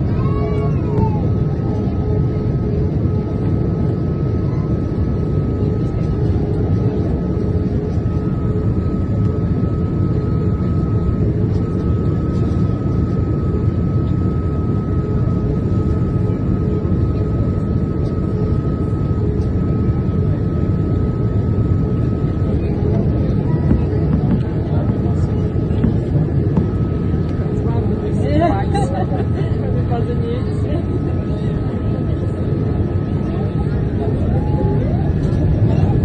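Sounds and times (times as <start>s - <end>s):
airplane cabin engine roar: 0.0s - 36.0s.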